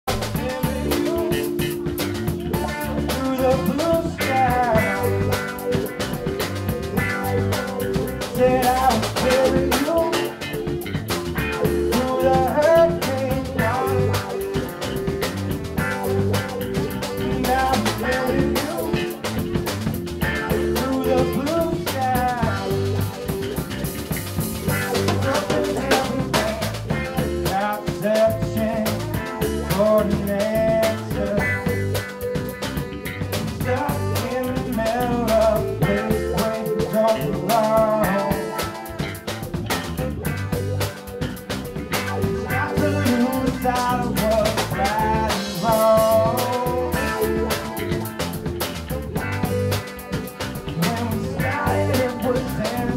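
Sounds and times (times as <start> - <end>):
live rock band playing: 0.1 - 52.9
saxophone melody: 0.1 - 52.9.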